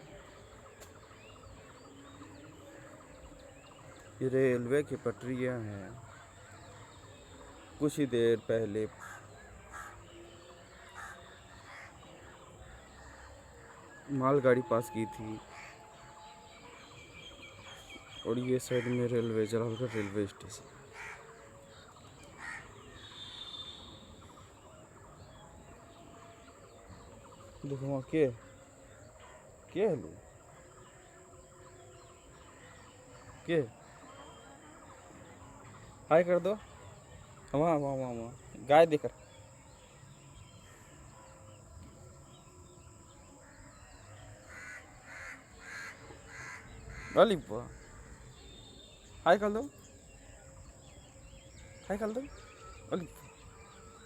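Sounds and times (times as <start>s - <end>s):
distant bird calls: 0.0s - 54.0s
faint outdoor background: 0.0s - 54.0s.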